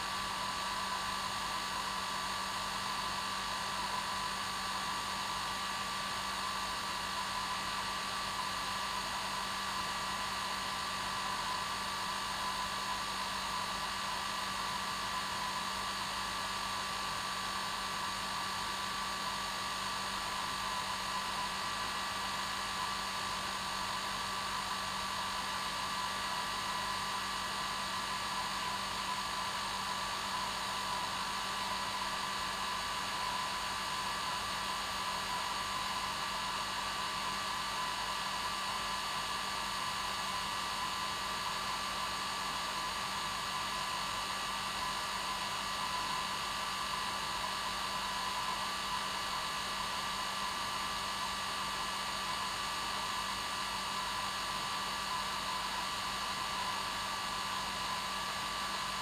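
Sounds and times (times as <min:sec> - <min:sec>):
hair dryer running: 0:06.1 - 0:59.0.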